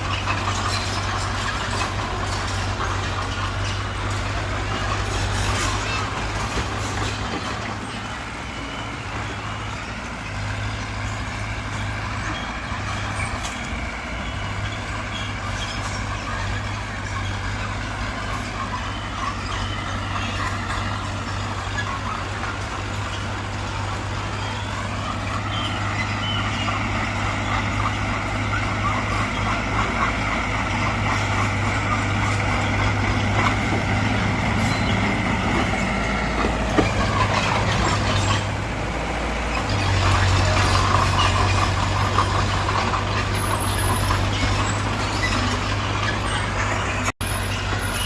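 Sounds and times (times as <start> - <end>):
heavy machinery engine running: 0.0 - 48.0.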